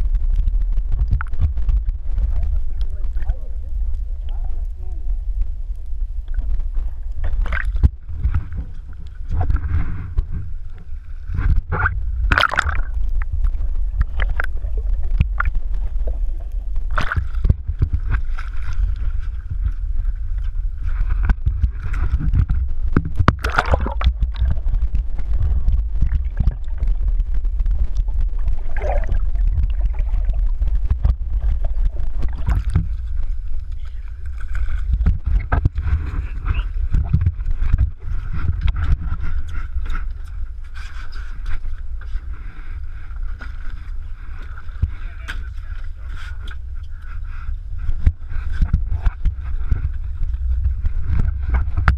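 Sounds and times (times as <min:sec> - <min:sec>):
steady low rumble: 0:00.0 - 0:51.9
water sloshing and gurgling: 0:00.0 - 0:51.9.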